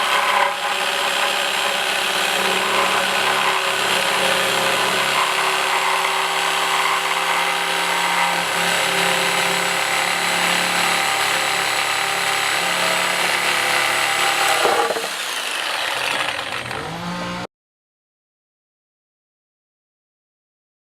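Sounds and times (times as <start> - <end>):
reciprocating saw running: 0.0 - 17.5.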